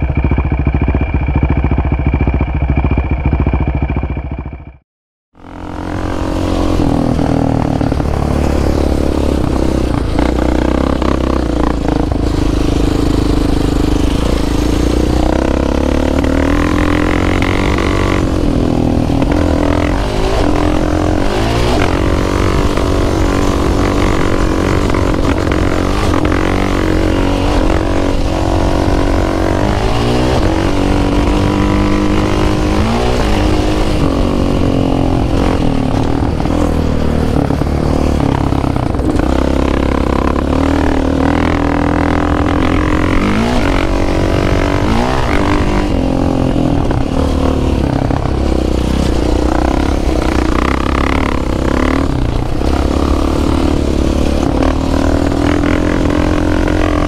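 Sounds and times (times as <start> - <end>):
atv engine revving: 5.4 - 57.0.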